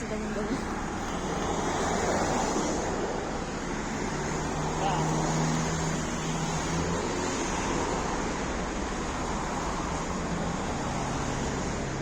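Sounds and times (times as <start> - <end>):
bus engine hum: 0.0 - 12.0
road and body noise: 0.0 - 12.0.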